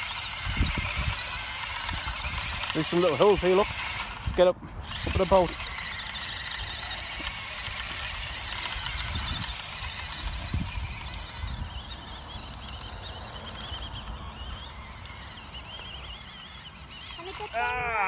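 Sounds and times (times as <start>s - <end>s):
toy truck motor whining: 0.0s - 18.0s.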